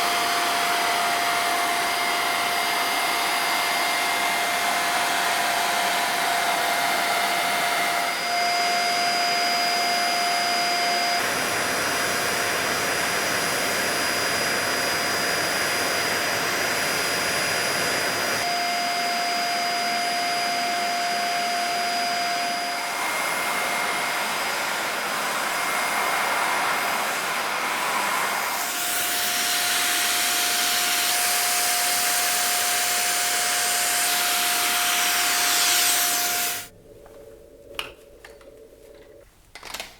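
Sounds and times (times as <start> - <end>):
vacuum cleaner running: 0.0 - 36.8.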